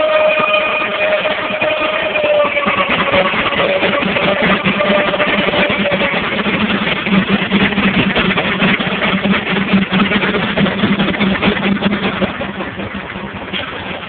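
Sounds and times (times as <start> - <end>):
steam engine running sawmill: 0.0 - 14.0.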